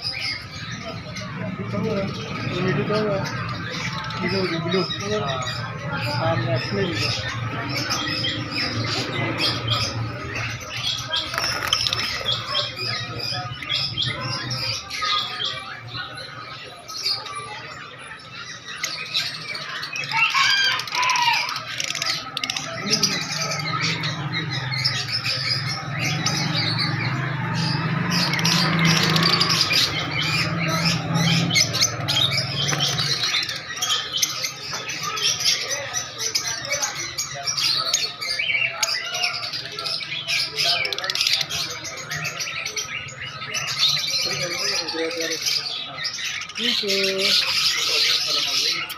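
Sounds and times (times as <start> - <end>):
caged birds chirping and squawking: 0.0 - 48.9.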